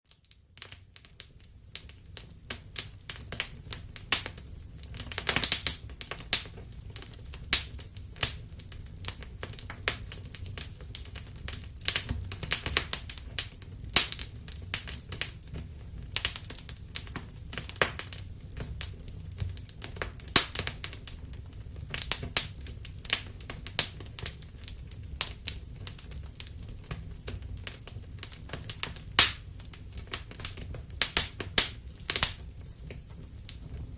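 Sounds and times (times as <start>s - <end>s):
campfire crackling and popping: 0.2s - 33.9s
low rumble of flames: 0.2s - 33.9s.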